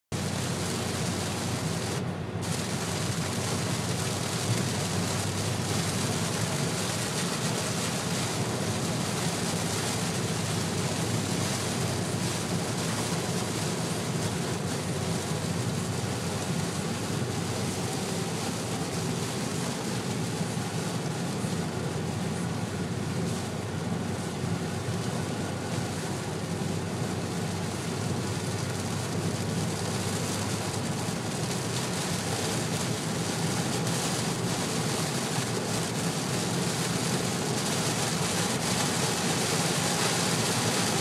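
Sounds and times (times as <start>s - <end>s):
heavy rain on car roof: 0.1s - 41.0s
tyres hissing on wet road: 0.2s - 41.0s.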